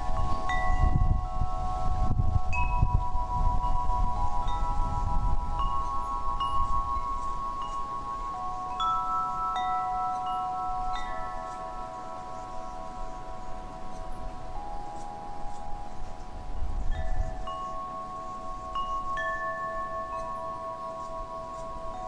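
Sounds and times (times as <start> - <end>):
wind chimes ringing: 0.0 - 22.0.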